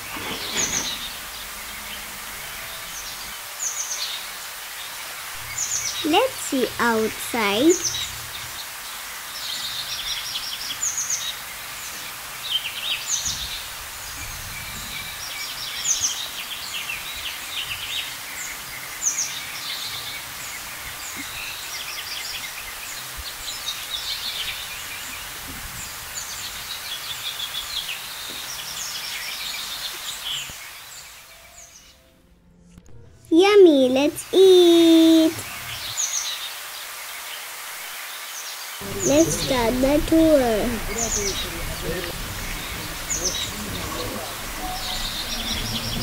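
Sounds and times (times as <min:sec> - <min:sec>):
small birds chirping: 0:00.0 - 0:32.0, 0:33.6 - 0:46.0
outdoor background hiss: 0:00.0 - 0:32.7, 0:33.3 - 0:46.0.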